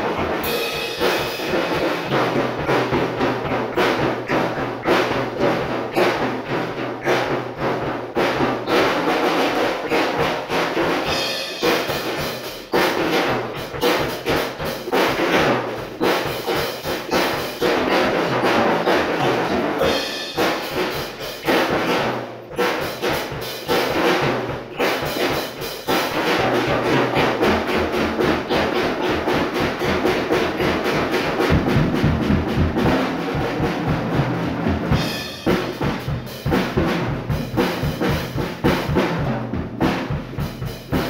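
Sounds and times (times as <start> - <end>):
drum kit playing: 0.0 - 41.0.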